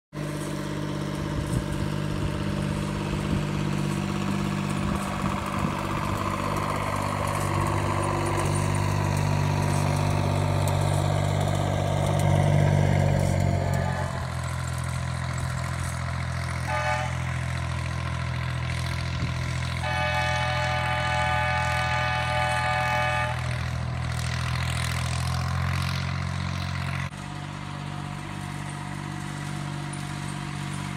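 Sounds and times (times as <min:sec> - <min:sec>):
locomotive engine running: 0:00.1 - 0:30.9.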